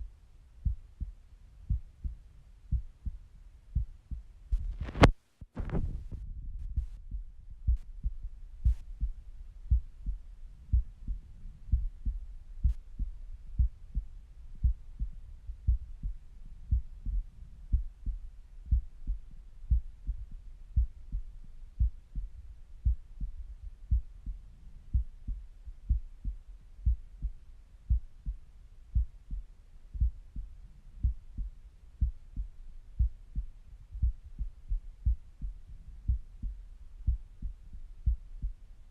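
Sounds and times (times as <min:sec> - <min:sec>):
heartbeat through stethoscope: 0:00.0 - 0:38.7.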